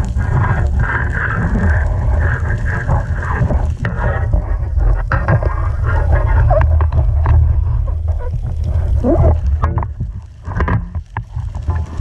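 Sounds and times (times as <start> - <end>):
gliding gurgling tones: 0.0 - 12.0
underwater rumble of moving water: 0.0 - 12.0.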